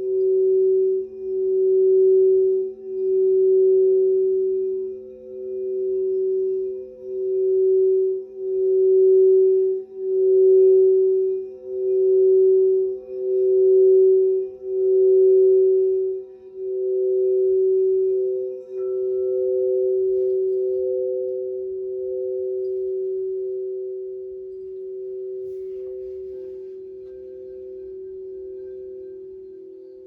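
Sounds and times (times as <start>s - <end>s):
crystal singing bowls ringing: 0.0s - 30.0s.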